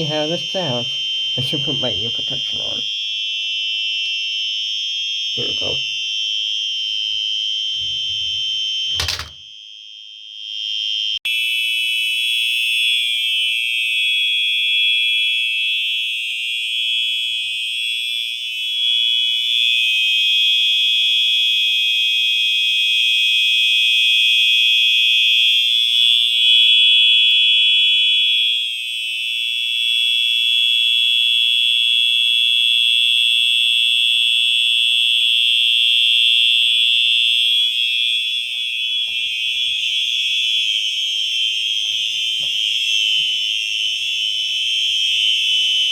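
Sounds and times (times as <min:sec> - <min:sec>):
fire alarms sounding: 0:00.0 - 0:09.3, 0:10.2 - 0:45.9.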